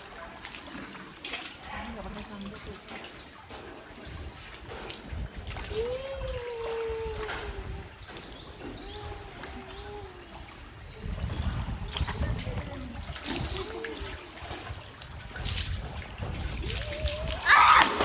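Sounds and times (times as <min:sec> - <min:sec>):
pool water splashing: 0:00.0 - 0:18.0.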